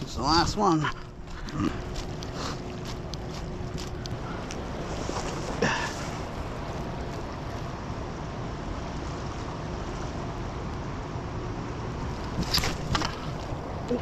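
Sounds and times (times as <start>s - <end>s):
moving water: 0.0s - 14.0s.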